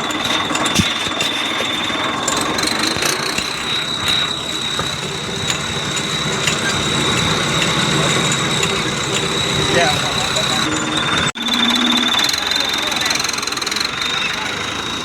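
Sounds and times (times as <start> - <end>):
thin high turbo whistle: 0.0 - 15.0
tractor engine running: 0.0 - 15.0.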